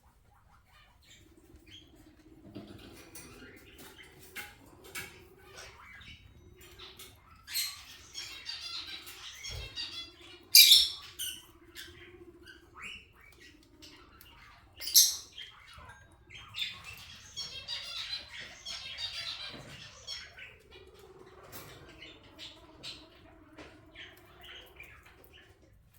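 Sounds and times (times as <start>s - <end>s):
parakeets chattering and squawking: 0.0s - 25.9s.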